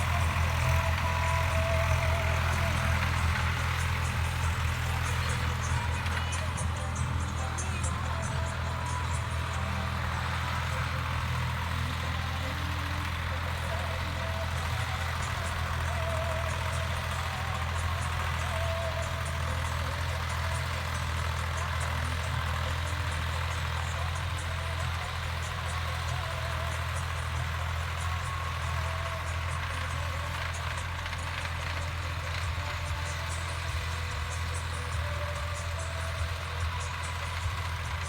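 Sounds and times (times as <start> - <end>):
diesel engine running steadily: 0.0 - 38.0.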